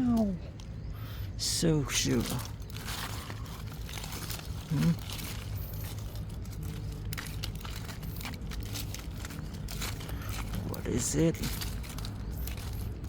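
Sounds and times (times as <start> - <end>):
steady low hum: 0.0 - 13.0
rustling and crinkling: 1.8 - 13.0.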